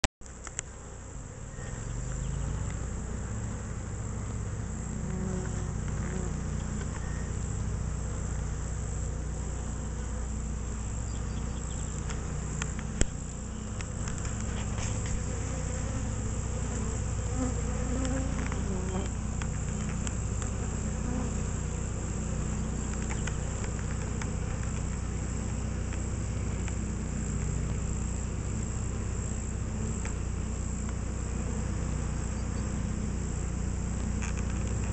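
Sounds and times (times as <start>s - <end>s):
bees buzzing: 0.3s - 34.9s.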